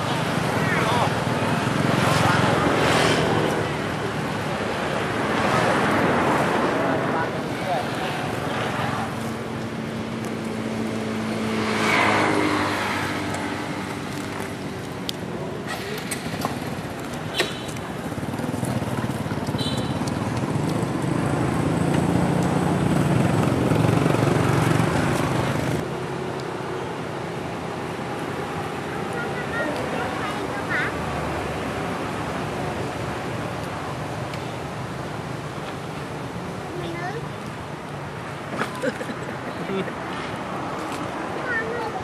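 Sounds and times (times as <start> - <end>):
vehicles passing: 0.0 - 42.0.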